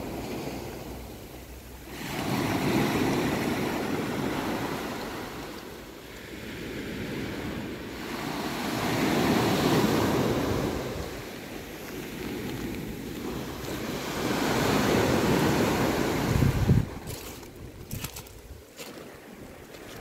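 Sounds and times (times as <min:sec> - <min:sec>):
small waves breaking on shore: 0:00.0 - 0:20.0.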